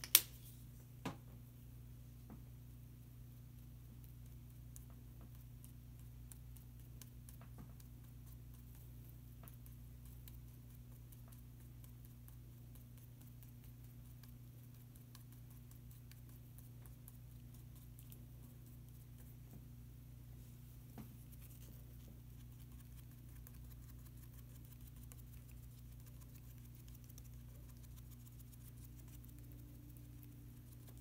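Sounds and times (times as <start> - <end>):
steady low hum: 0.0 - 31.0
paintbrush dabbing: 3.8 - 31.0.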